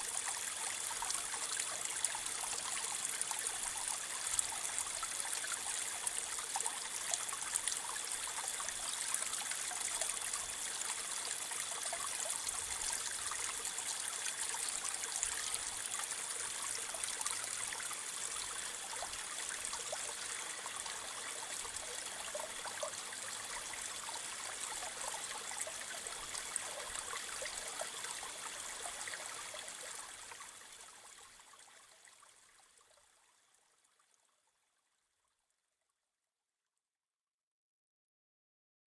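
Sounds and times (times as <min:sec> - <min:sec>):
trickling water: 0:00.0 - 0:35.4.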